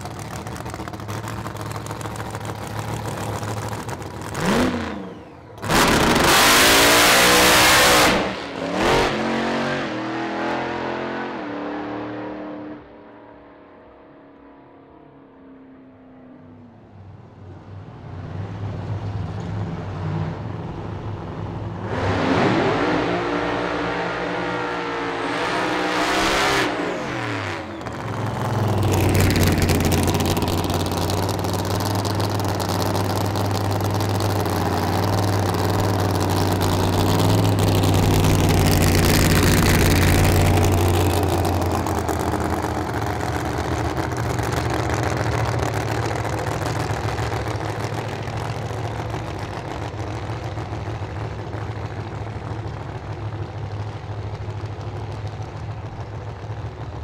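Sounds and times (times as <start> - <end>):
race car engine revving: 0.0 - 12.8, 21.2 - 56.5.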